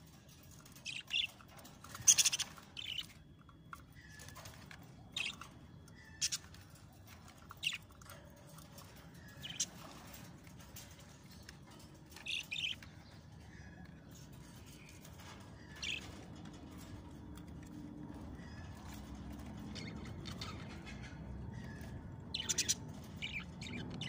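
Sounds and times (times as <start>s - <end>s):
low background rumble: 0.0s - 24.0s
budgerigars chirping and squawking: 0.6s - 3.2s, 3.9s - 17.5s, 18.1s - 24.0s.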